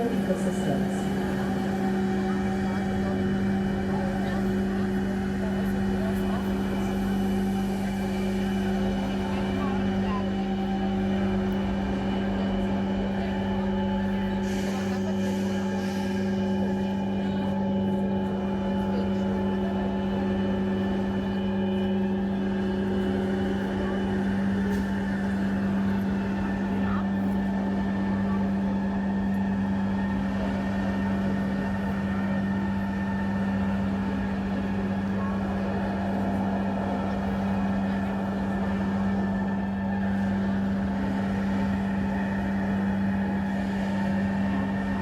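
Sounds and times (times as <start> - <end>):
dense noisy rush: 0.0 - 45.0
steady low electronic drone: 0.0 - 45.0.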